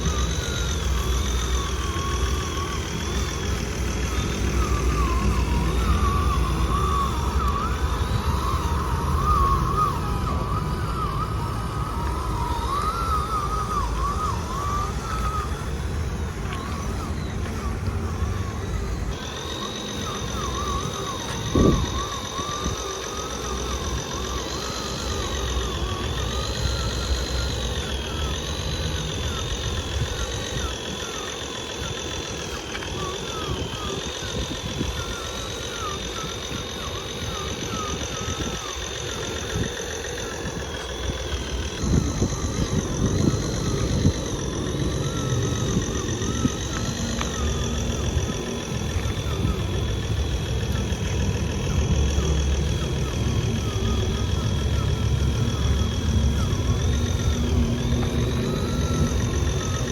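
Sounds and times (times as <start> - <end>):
small motors whining: 0.0 - 59.9.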